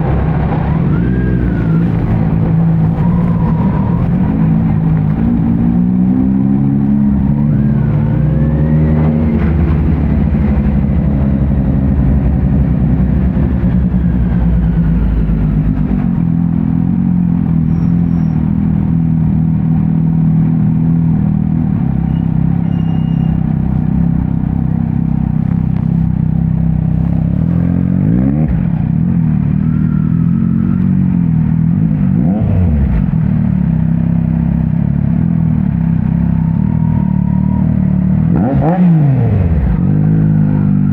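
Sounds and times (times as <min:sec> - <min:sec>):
motorcycle engine running loud: 0:00.0 - 0:40.9.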